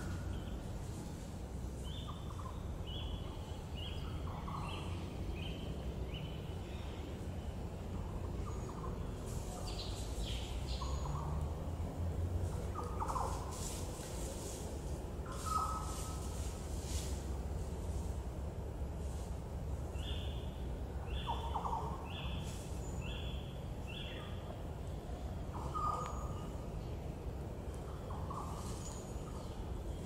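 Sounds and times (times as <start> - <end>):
wild birds calling: 0.0 - 18.8, 19.4 - 30.0
steady low rumble: 0.0 - 30.0.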